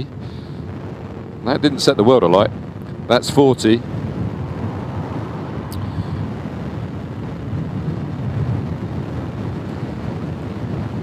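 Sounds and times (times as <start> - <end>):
road noise: 0.0 - 11.0
wind rush: 0.0 - 11.0.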